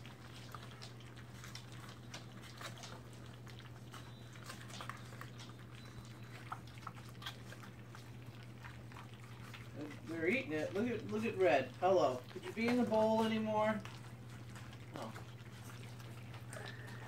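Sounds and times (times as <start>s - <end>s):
low steady hum: 0.0s - 17.0s
puppies lapping food: 0.0s - 17.0s.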